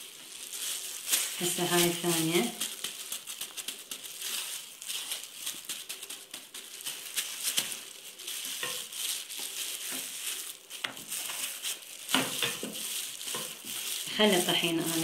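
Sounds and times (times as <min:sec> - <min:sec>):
plastic gloves crinkling: 0:00.0 - 0:15.0.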